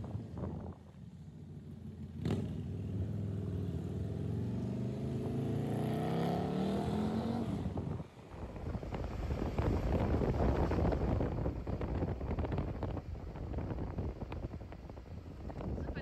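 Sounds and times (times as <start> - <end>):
motorcycle engine accelerating: 1.4 - 14.7.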